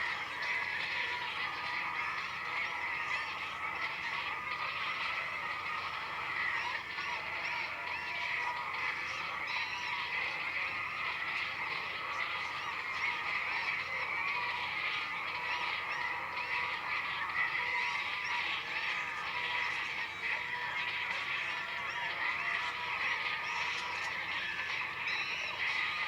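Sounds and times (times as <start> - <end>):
chorus of animals calling: 0.0 - 26.0.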